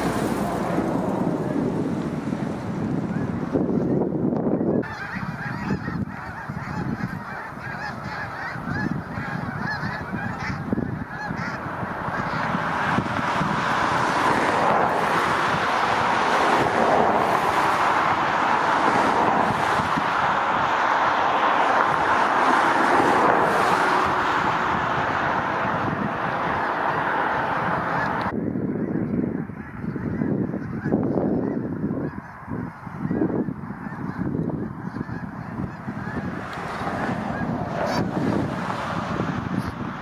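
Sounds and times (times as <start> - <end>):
wind rumbling on microphone: 0.0 - 40.0
snow geese honking: 3.0 - 39.7.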